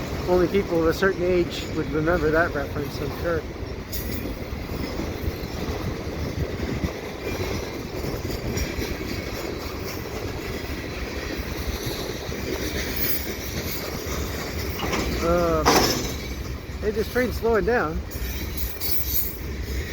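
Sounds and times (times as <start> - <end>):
freight train rolling by: 0.0 - 19.9.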